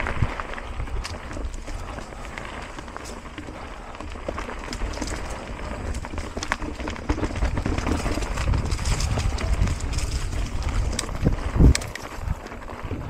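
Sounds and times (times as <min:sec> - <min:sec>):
bike tyres on dirt trail: 0:00.0 - 0:13.0
small rattles and clicks: 0:00.0 - 0:13.0.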